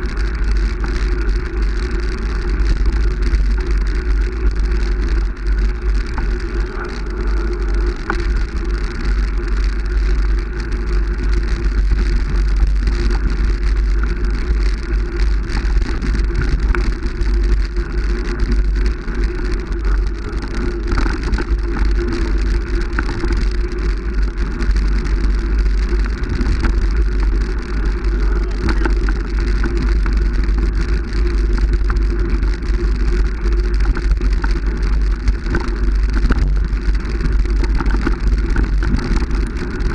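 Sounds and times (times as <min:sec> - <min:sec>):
moving vehicle running noise: 0:00.0 - 0:39.9.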